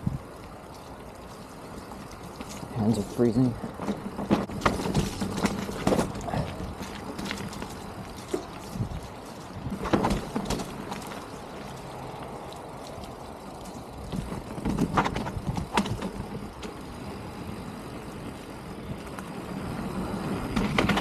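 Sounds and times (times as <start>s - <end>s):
bike knocks and rattles: 0.0s - 11.9s, 13.4s - 21.0s
mountain bike tyres on muddy trail: 0.0s - 21.0s.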